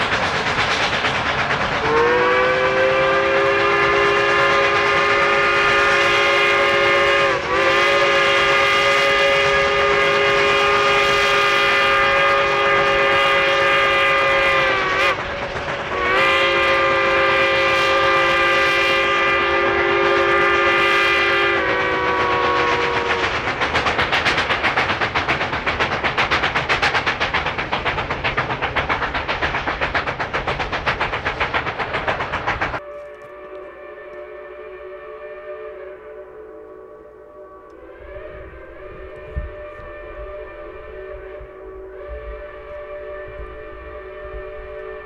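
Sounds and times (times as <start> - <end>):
steam locomotive exhaust beats: 0.0 - 45.0
steam locomotive whistle: 0.0 - 45.0.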